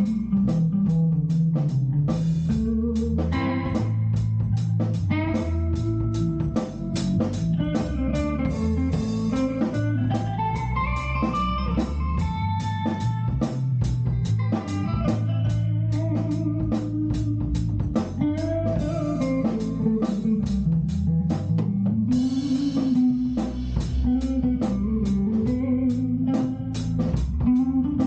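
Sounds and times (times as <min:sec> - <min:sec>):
bass guitar notes: 0:00.0 - 0:28.0
electric guitar lines: 0:00.0 - 0:28.0
steady drum beat: 0:00.0 - 0:28.0.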